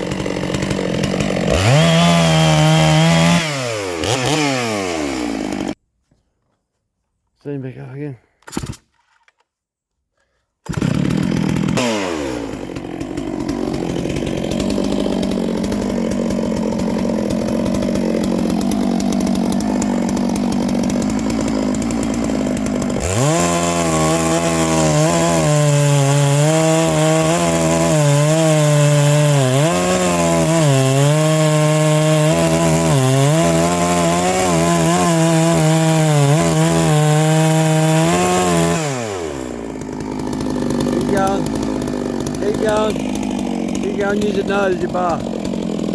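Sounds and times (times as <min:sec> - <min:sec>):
chainsaw cutting wood: 0:00.0 - 0:05.8, 0:10.6 - 0:45.9.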